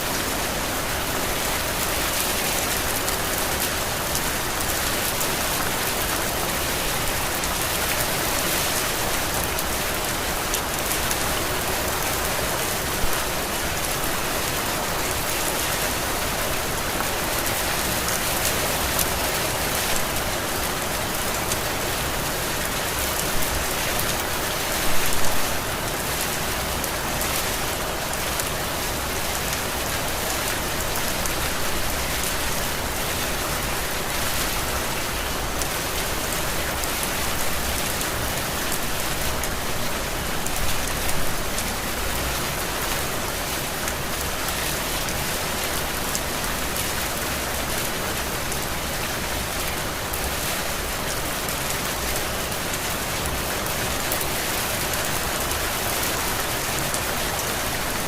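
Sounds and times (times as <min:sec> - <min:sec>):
heavy rain falling: 0:00.0 - 0:58.0
loud rain splashes: 0:00.0 - 0:58.0.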